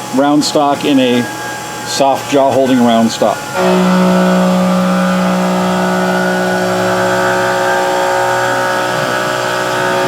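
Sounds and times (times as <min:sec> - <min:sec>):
milling machine spindle whine: 0:00.0 - 0:10.0.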